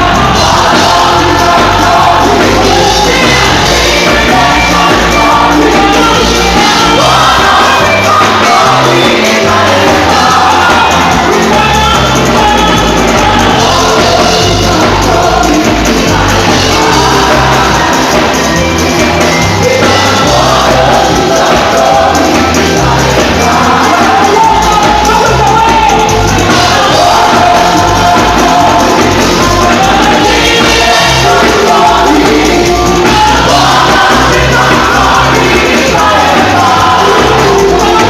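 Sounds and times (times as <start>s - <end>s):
bass line: 0.0s - 38.0s
gospel worship music: 0.0s - 38.0s.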